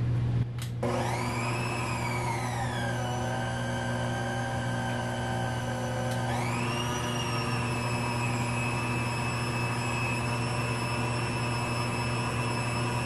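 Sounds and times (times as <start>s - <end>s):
stand mixer motor whining: 0.8s - 13.0s.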